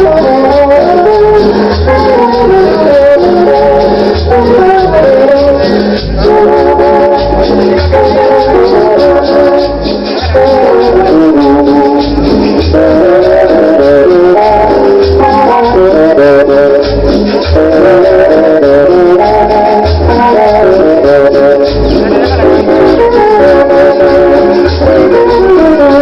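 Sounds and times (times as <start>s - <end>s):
latin dance music: 0.0s - 26.0s
maracas shaking: 0.0s - 26.0s.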